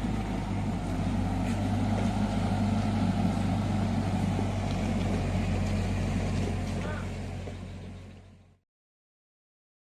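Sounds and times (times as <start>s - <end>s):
diesel engine running steadily: 0.0s - 8.6s.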